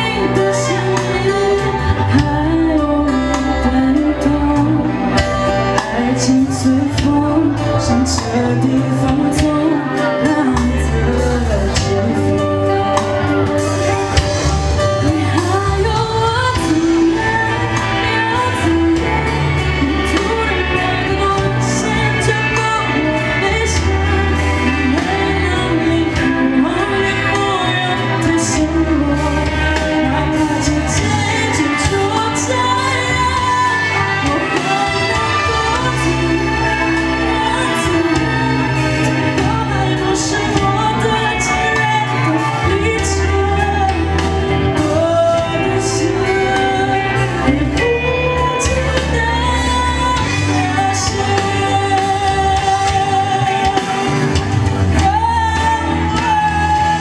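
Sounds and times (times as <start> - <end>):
backing music with bass notes: 0.0 - 57.0
woman singing into microphone: 0.0 - 57.0.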